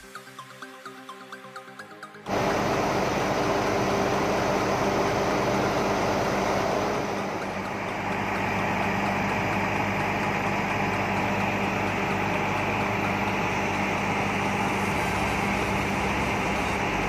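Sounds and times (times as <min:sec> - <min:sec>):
diesel engine idling: 0:02.3 - 0:17.0.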